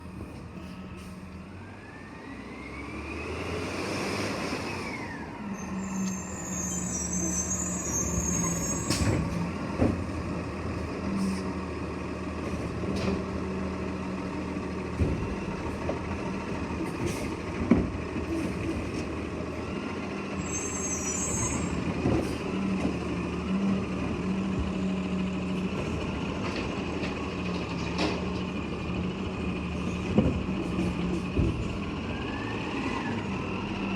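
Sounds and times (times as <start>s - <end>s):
garbage truck engine hum: 0.0s - 33.9s.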